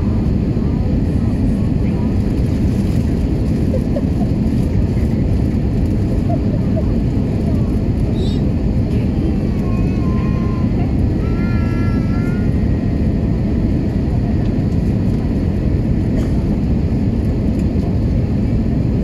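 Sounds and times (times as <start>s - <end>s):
airliner cabin roar: 0.0s - 19.0s.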